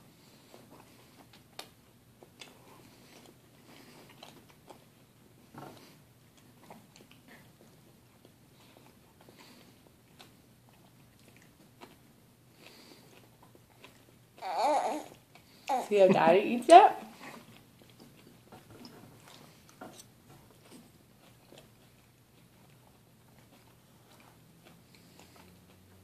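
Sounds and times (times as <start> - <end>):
chewing asparagus: 0.3 - 15.8, 17.1 - 26.0.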